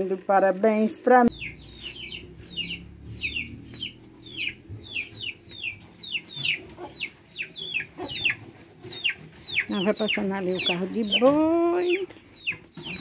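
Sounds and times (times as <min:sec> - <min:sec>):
young chickens peeping: 0:01.3 - 0:13.0.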